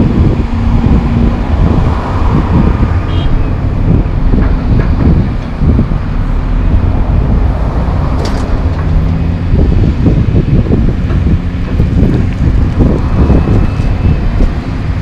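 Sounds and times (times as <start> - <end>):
distant diesel engines rumbling: 0.0 - 15.0
wind buffeting microphone: 0.0 - 15.0.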